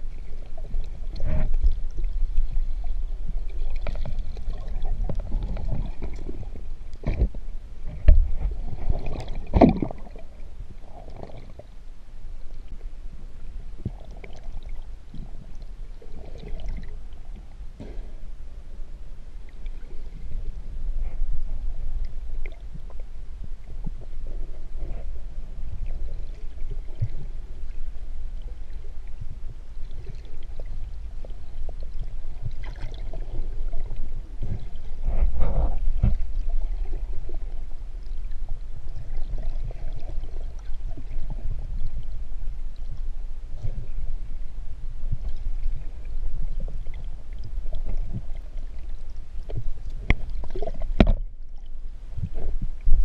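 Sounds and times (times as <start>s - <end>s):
underwater rumble of seawater: 0.0s - 53.0s
small underwater clicks and knocks: 0.1s - 11.8s, 13.8s - 18.4s, 19.4s - 44.1s, 45.0s - 53.0s.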